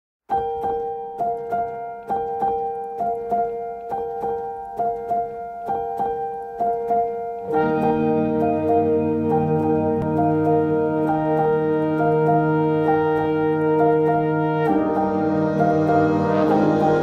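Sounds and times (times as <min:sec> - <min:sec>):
keyboard music: 0:00.3 - 0:17.0.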